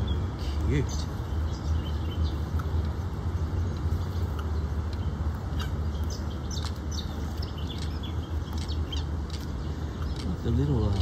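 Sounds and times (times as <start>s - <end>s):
high bird chirps: 0.0s - 10.6s
steady low rumble: 0.0s - 11.0s.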